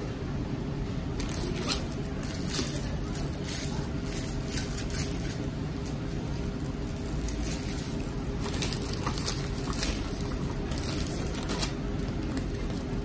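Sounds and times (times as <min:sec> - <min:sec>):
low background rumble: 0:00.0 - 0:13.0
plastic bag crinkling: 0:01.2 - 0:13.0.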